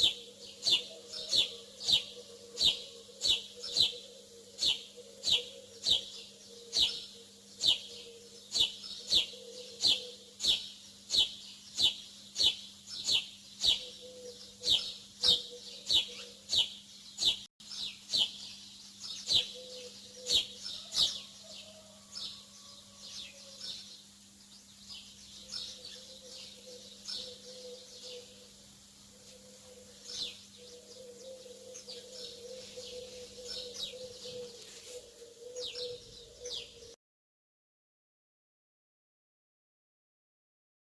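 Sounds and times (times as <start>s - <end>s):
small songbird chirping: 0.0s - 28.6s, 29.3s - 37.0s.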